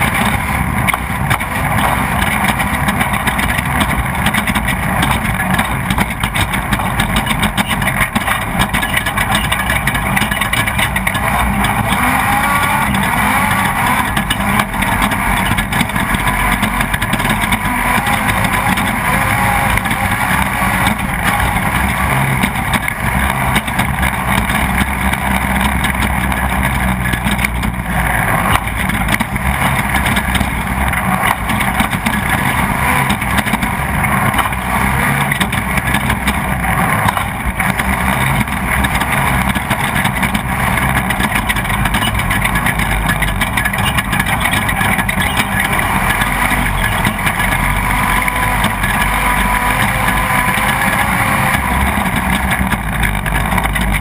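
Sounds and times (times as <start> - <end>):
knocks and rattles: 0.0 - 54.0
race vehicle engine under load: 0.0 - 54.0.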